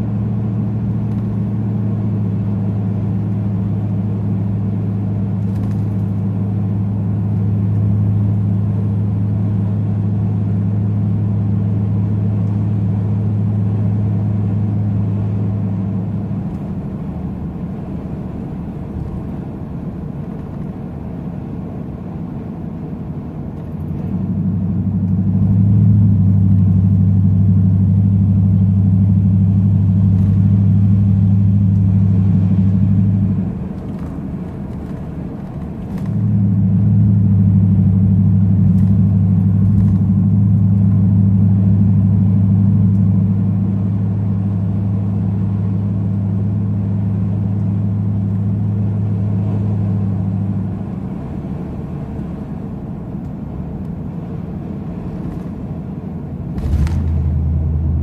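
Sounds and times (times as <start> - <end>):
truck engine and exhaust droning: 0.0 - 58.0.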